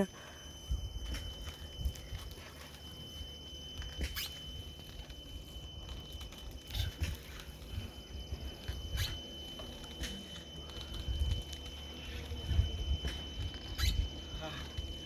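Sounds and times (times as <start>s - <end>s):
faint steady high tone: 0.0s - 15.0s
bamboo swing creaking: 1.0s - 15.0s.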